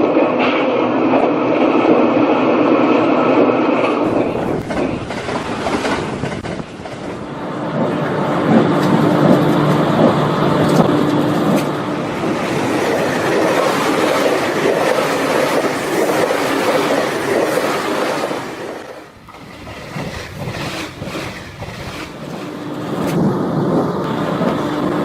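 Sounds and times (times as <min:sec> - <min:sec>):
train rolling on track: 0:00.0 - 0:25.0.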